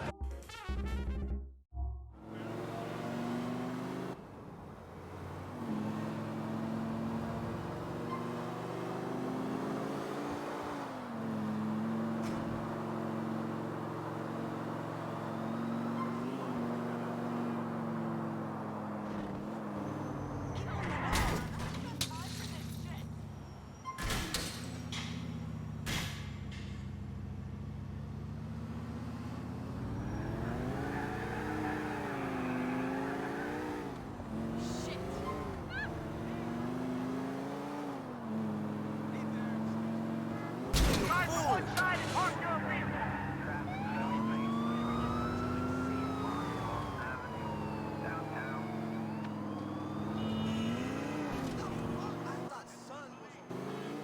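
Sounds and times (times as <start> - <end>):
video game car engine running: 2.1 - 54.0.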